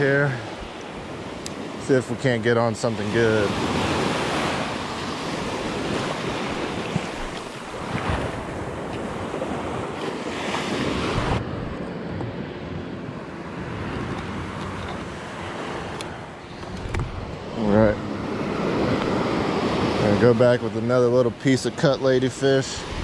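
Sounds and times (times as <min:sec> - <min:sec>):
wind buffeting microphone: 0:00.0 - 0:21.4.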